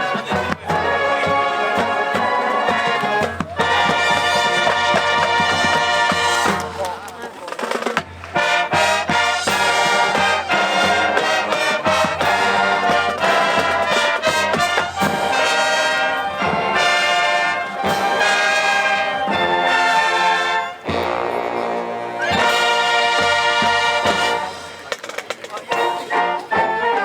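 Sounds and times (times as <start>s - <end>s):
brass band playing lively tune: 0.0s - 27.0s.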